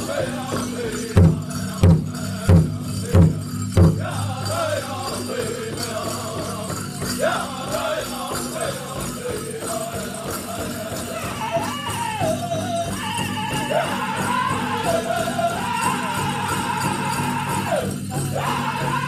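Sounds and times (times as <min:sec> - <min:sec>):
big drum beating: 0:00.0 - 0:17.1
group singing: 0:00.0 - 0:19.0
leg bells jingling: 0:00.0 - 0:19.0.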